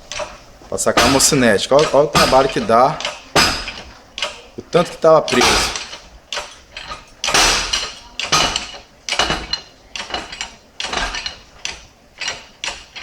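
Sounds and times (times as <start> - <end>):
shop press clanking: 0.0 - 13.0.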